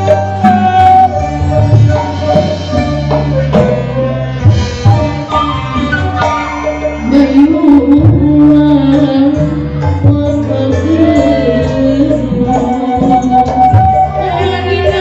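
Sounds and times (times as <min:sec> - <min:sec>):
wavering held melody: 0:00.0 - 0:15.0.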